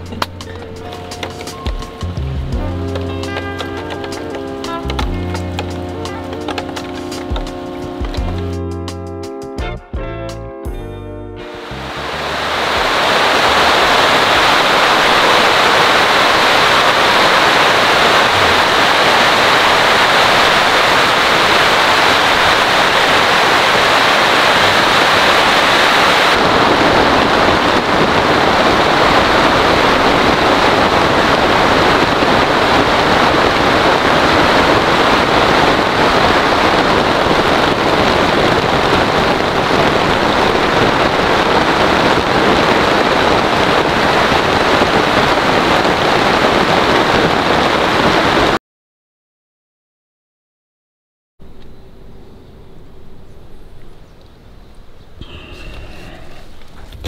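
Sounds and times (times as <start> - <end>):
heavy rain pouring: 0.0 - 8.7, 11.4 - 48.6, 55.2 - 57.0.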